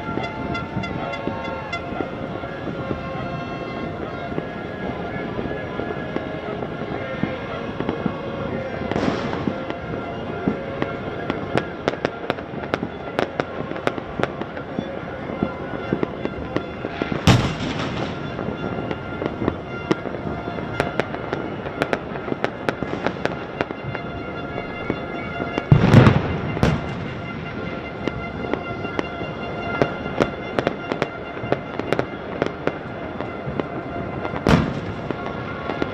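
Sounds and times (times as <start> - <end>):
firecrackers crackling: 0.0 - 35.9
heavy firework booms: 0.0 - 35.9.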